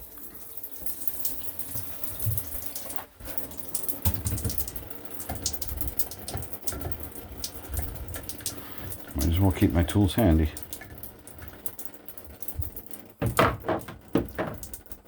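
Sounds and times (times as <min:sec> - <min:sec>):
shower water running: 0:00.0 - 0:15.0.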